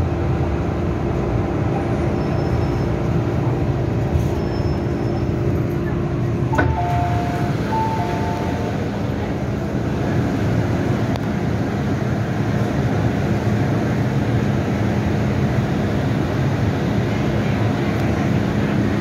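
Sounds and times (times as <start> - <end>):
train leaving station rumble: 0.0 - 19.0.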